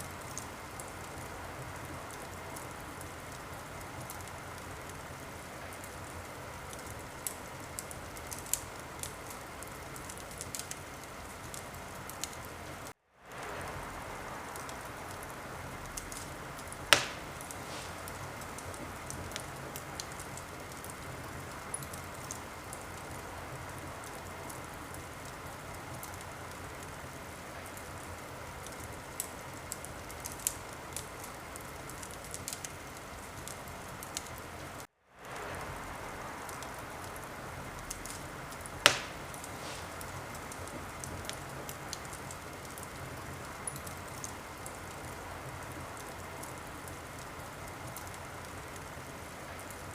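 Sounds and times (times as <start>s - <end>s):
fireplace fire crackling: 0.0s - 49.9s.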